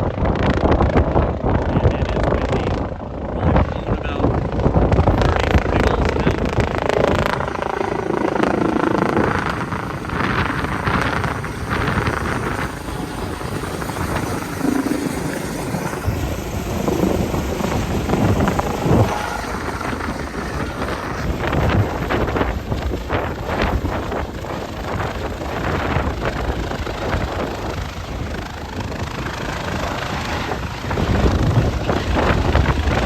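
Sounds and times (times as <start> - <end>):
distant helicopter rotor and engine: 0.0 - 33.0
wind buffeting microphone: 0.0 - 33.0.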